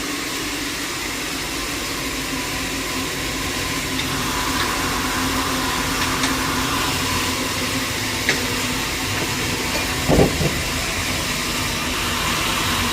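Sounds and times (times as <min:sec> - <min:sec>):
sawmill machinery humming: 0:00.0 - 0:12.9.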